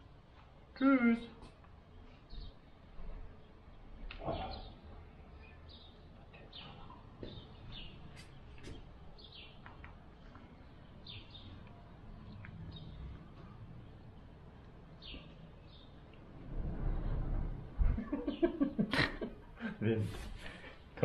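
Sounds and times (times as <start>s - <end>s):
birds chirping: 1.0s - 17.4s, 18.0s - 21.0s.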